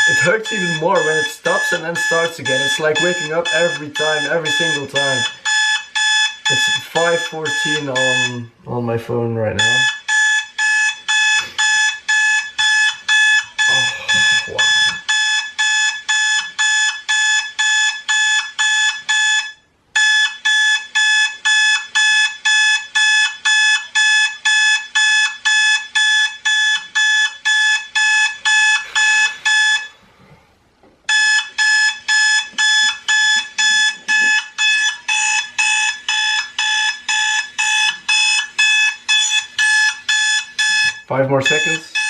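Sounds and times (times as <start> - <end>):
alarm clock beeping: 0.0 - 30.0, 31.1 - 42.0.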